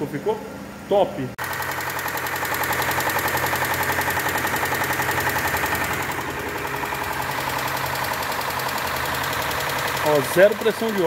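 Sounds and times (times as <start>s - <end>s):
car engine idling: 1.4s - 11.0s.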